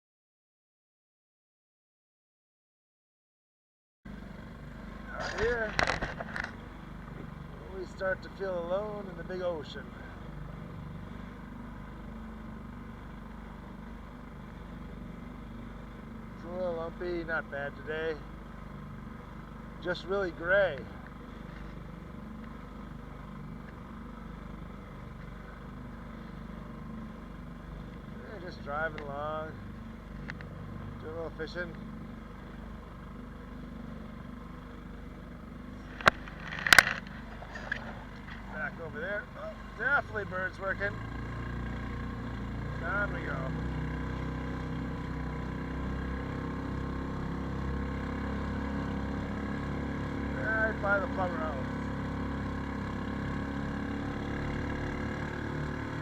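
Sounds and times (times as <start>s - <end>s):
boat motor droning: 4.1s - 56.0s.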